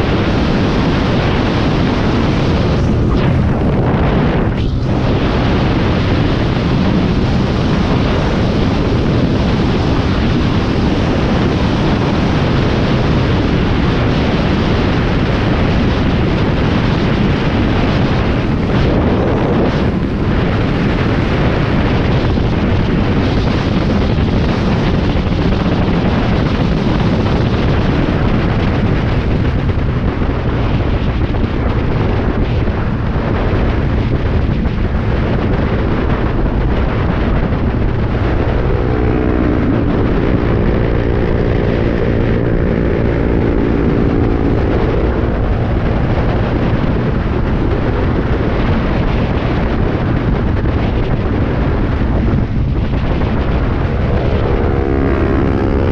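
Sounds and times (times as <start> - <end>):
wind roar on microphone: 0.0 - 55.9.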